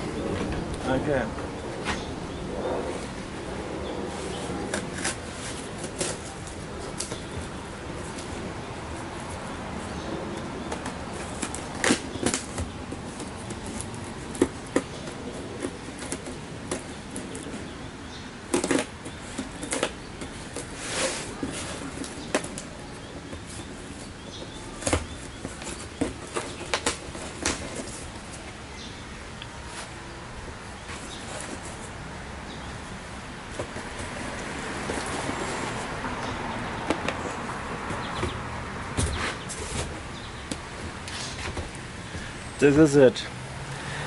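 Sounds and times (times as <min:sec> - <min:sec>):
cardboard flaps rustling and scraping: 0:04.1 - 0:28.9, 0:30.6 - 0:32.0, 0:32.6 - 0:42.3.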